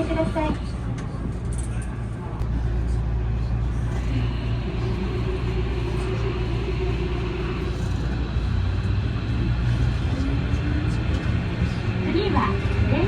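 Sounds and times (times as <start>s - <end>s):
hum: 0.0s - 13.0s
train rumbling in tunnel: 0.0s - 13.0s.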